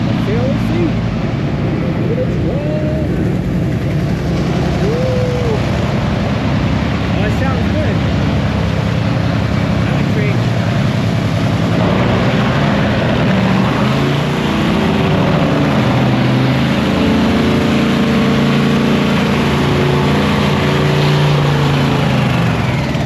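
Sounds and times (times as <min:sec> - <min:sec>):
dragster engine running: 0:00.0 - 0:23.0.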